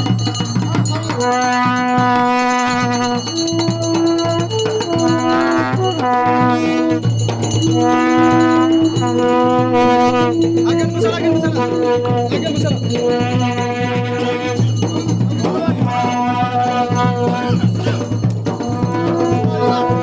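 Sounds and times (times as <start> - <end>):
jingling rattling percussion: 0.0 - 20.0
wind instrument melody: 0.0 - 20.0.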